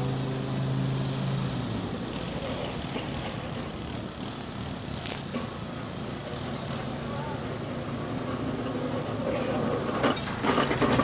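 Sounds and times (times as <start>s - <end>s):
distant engines rumbling: 0.0s - 11.0s
lawn mower engine humming: 0.0s - 11.0s.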